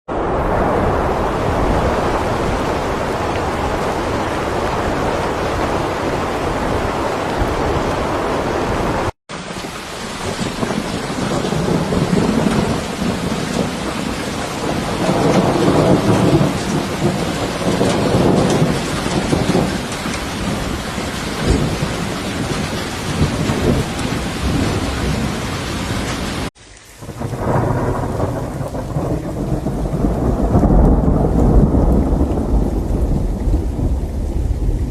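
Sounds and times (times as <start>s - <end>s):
rolling thunder: 0.1s - 9.1s, 10.1s - 34.9s
steady rain: 0.1s - 34.9s.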